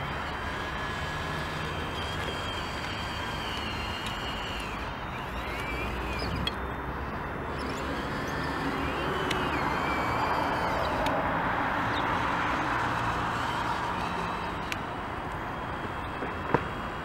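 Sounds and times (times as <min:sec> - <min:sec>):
electric and hydraulic motors whining: 0:00.0 - 0:17.0.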